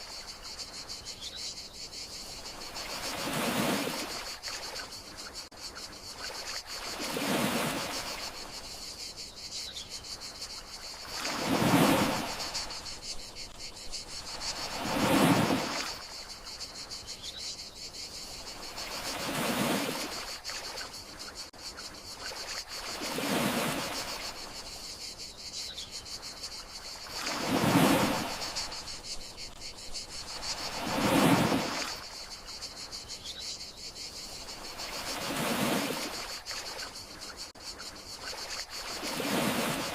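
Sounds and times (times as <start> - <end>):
crickets chirring: 0.0 - 39.9
gentle sea waves: 0.0 - 39.9.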